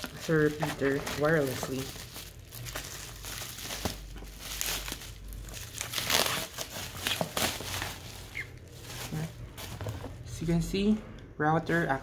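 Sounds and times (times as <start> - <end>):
plastic wrap crinkling: 0.0 - 10.3.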